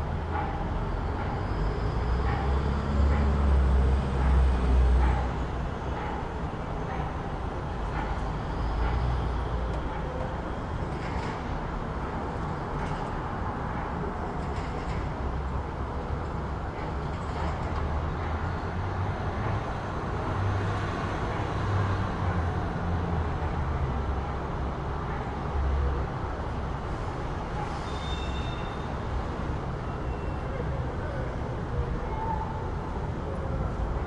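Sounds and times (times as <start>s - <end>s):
rumble of passing vehicles: 0.0s - 34.0s
traffic noise: 0.0s - 34.0s.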